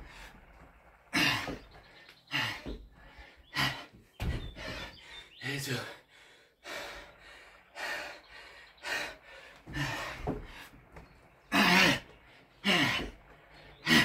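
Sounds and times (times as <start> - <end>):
man breathing hard: 0.0 - 14.0.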